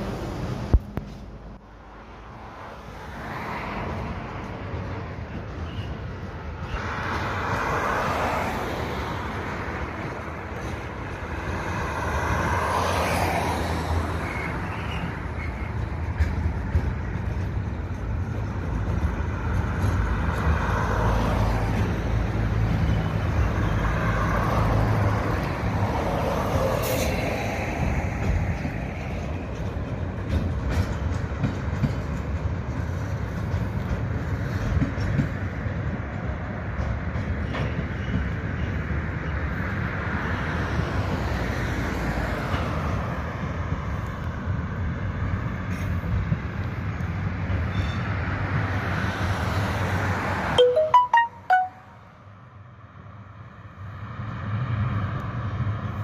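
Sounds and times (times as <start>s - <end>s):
train wheels rumbling on rails: 0.0s - 50.4s.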